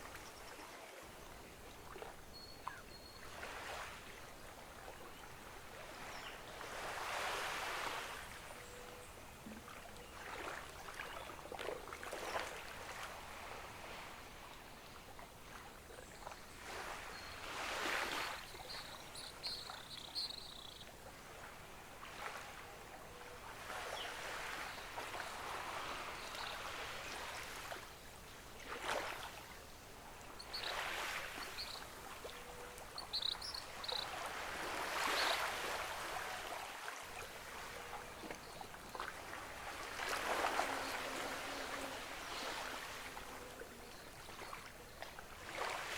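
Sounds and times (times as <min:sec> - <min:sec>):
ocean waves washing onto beach: 0:00.0 - 0:45.9.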